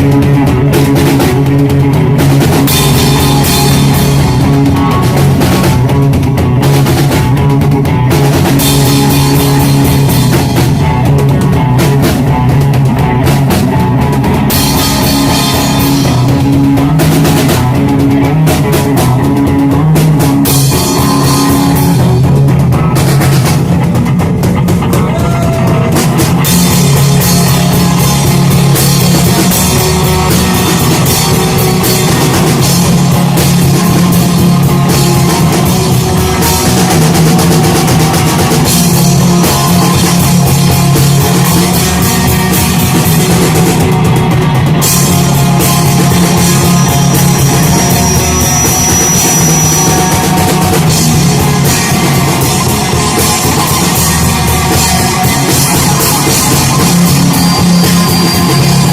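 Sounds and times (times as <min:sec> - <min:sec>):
drum kit pounding: 0:00.0 - 0:58.9
rock band playing live: 0:00.0 - 0:58.9.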